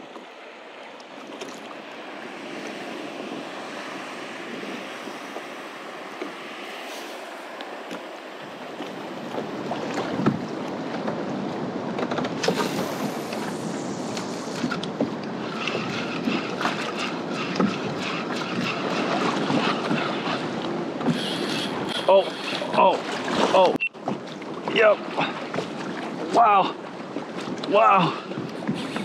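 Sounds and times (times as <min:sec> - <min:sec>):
water splashing against kayak: 0:00.0 - 0:29.0
wind buffeting microphone: 0:01.6 - 0:29.0.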